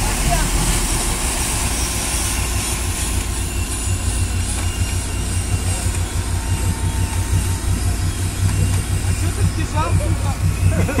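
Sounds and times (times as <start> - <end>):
engine running low drone: 0.0 - 11.0.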